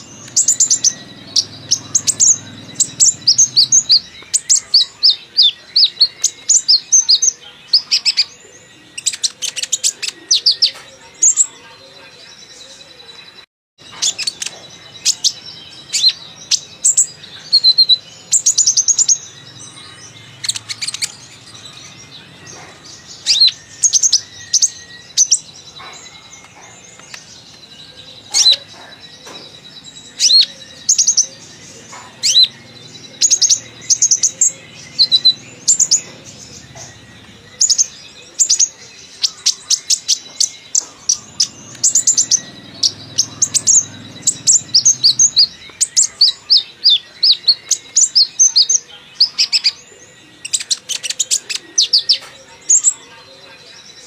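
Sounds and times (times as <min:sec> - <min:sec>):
bird singing high chirps and trills: 0:00.0 - 0:54.0.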